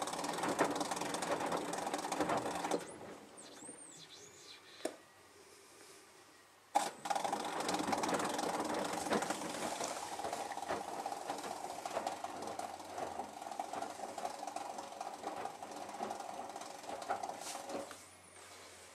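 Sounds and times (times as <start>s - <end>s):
washing machine whining and rattling: 0.0s - 3.8s, 6.8s - 18.9s.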